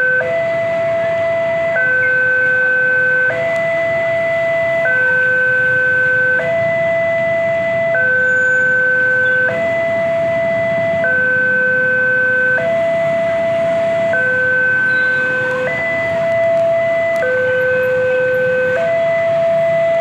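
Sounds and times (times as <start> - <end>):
two-tone crossing alarm: 0.0 - 20.0.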